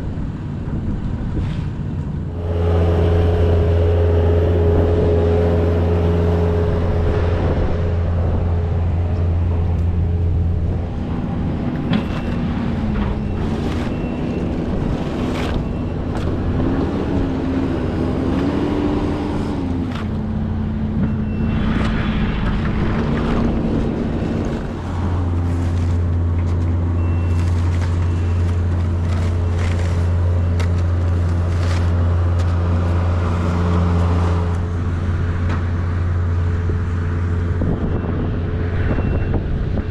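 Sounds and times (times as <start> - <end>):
vehicle engine running: 2.0 - 39.9.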